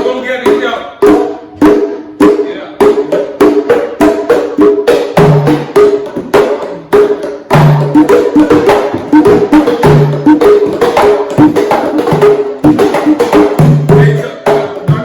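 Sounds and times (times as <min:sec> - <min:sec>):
hand drums slaps and tones: 0:00.0 - 0:15.0.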